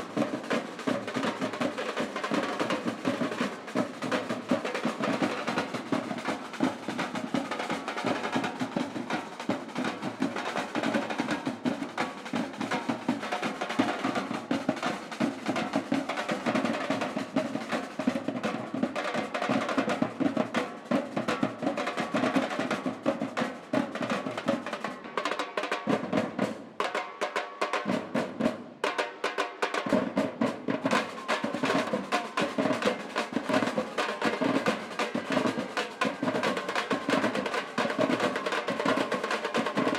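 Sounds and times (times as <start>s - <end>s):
samba drum ensemble: 0.0s - 39.9s.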